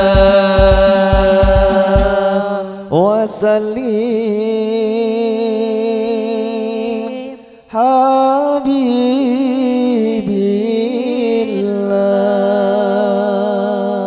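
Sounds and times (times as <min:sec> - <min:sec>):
man singing long notes: 0:00.0 - 0:14.0.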